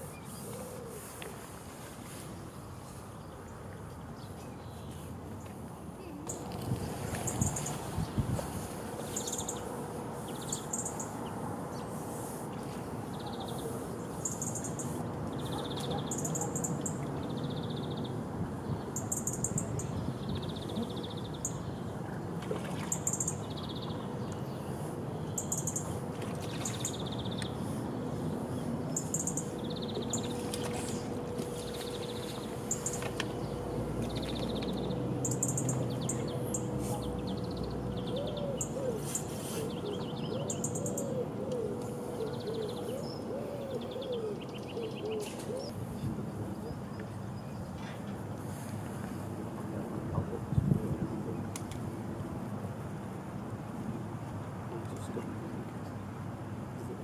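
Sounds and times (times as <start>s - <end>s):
faint constant hum: 0.0s - 57.0s.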